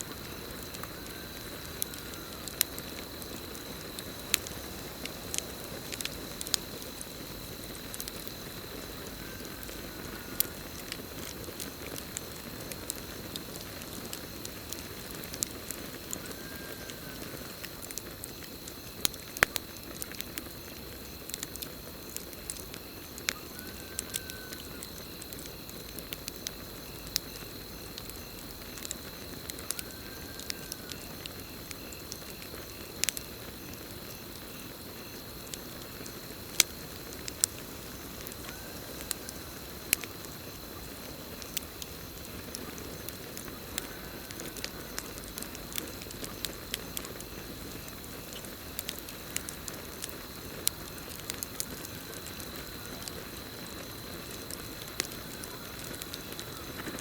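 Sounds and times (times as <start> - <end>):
campfire crackling and popping: 0.0 - 57.0
cricket trill: 0.0 - 57.0.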